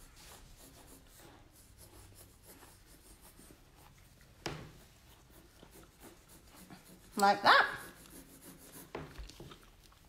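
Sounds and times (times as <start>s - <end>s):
pencil scratching on paper: 0.0s - 9.5s.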